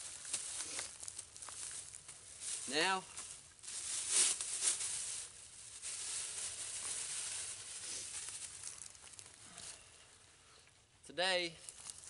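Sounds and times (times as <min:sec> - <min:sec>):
plastic bag crinkling and rustling: 0:00.0 - 0:09.8, 0:11.6 - 0:12.0.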